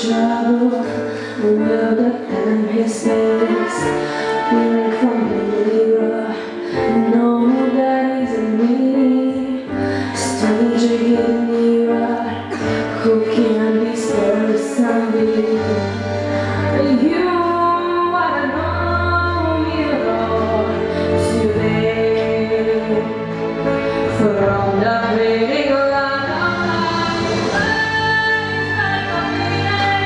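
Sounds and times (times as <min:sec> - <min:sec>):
instrumental accompaniment with bass: 0:00.0 - 0:30.0
woman singing into microphone: 0:00.0 - 0:30.0.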